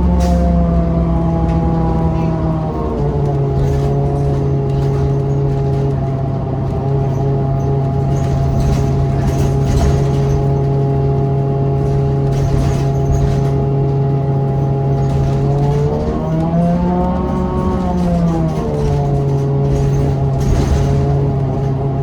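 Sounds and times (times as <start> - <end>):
bus engine droning: 0.0 - 22.0.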